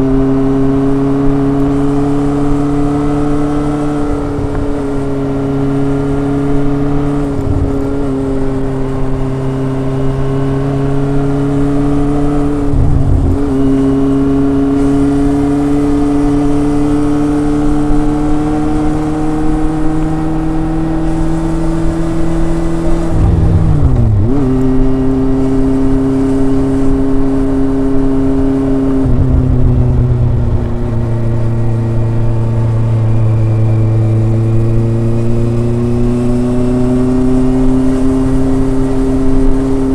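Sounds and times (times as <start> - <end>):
motorcycle engine and exhaust revving: 0.0 - 39.9.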